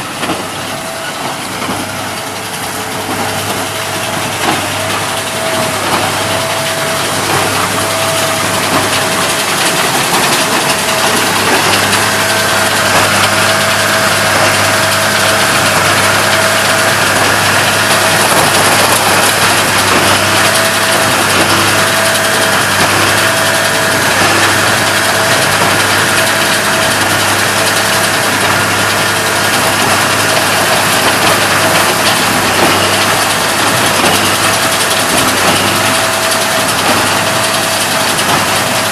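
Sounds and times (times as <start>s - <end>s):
tractor and baler machine din: 0.0s - 38.9s.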